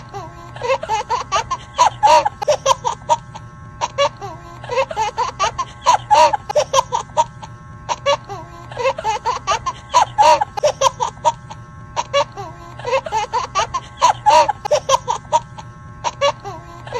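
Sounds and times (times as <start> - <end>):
high-pitched giggling and laughing: 0.0 - 16.9.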